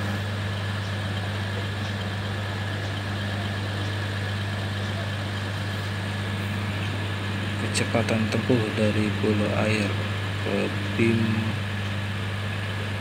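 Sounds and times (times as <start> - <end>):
faint high whine: 0.0 - 13.0
train engines idling: 0.0 - 13.0.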